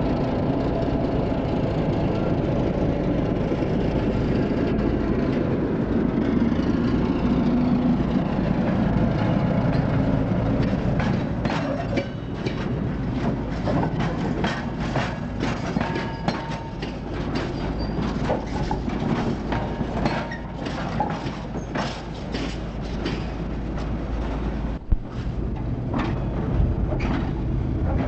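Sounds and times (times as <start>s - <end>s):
train low rumble: 0.0s - 28.0s
wheels clanking over rail joints: 0.4s - 28.0s.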